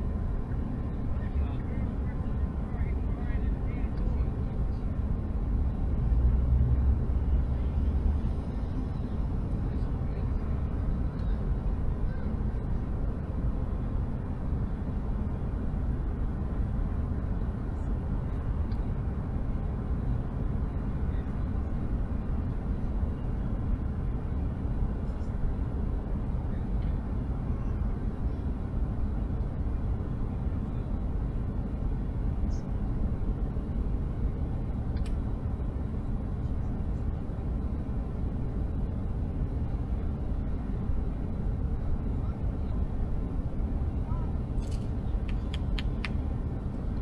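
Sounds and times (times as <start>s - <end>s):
low rumble inside a car: 0.0s - 47.0s.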